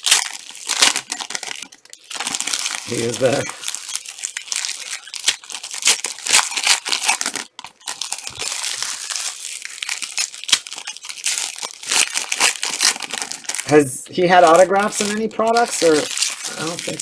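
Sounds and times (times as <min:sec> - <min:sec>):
plastic wrappers crinkling and tearing: 0:00.0 - 0:17.0.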